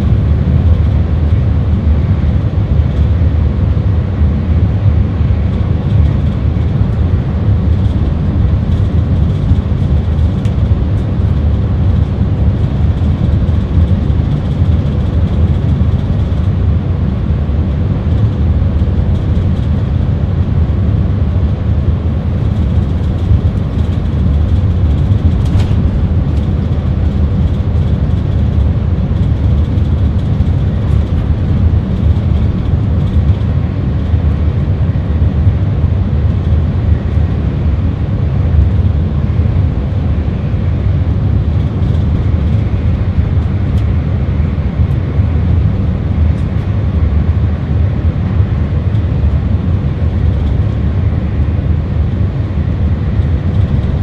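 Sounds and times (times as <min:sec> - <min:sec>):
train low rumble: 0:00.0 - 0:54.0.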